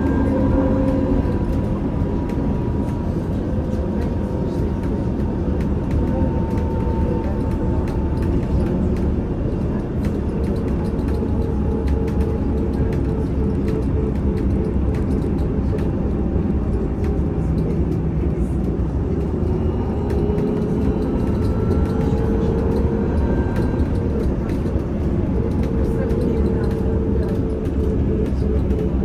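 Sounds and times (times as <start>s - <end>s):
faint rattles and clicks: 0.0s - 29.0s
road and body rumble: 0.0s - 29.0s.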